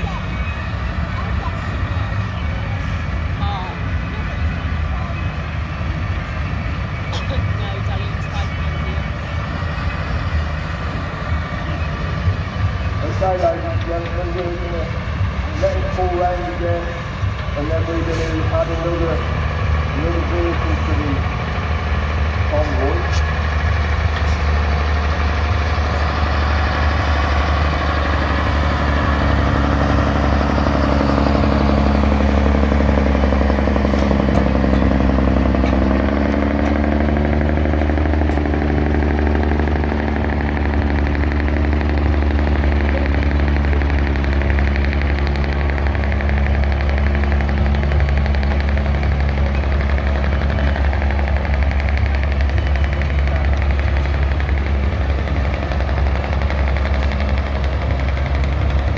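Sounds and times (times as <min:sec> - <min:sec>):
heavy trucks engine drone: 0:00.0 - 0:58.9.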